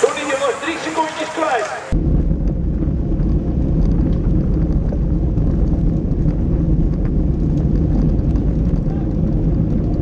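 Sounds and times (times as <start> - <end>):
wind buffeting: 0.0 - 10.0
road vibration rumble: 1.9 - 10.0.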